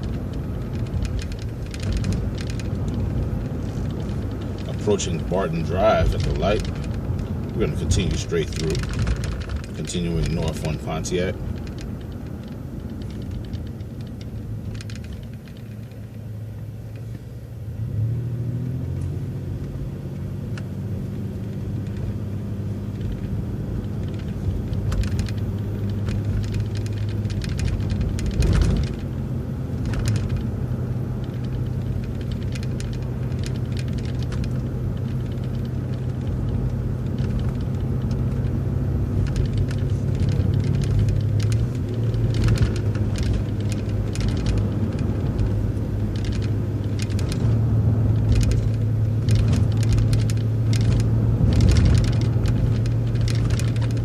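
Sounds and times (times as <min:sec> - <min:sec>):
light rattles: 0:00.0 - 0:17.3, 0:20.4 - 0:54.0
bus engine hum: 0:00.0 - 0:54.0
road rumble: 0:00.0 - 0:54.0.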